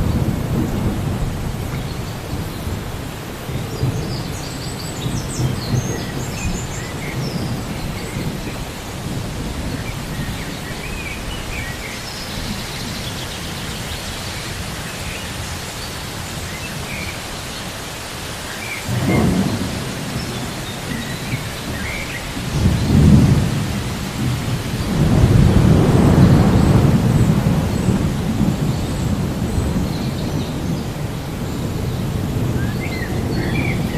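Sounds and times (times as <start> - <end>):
thunder rumbling: 0.0 - 13.8, 18.9 - 33.9
steady rain: 0.0 - 33.9.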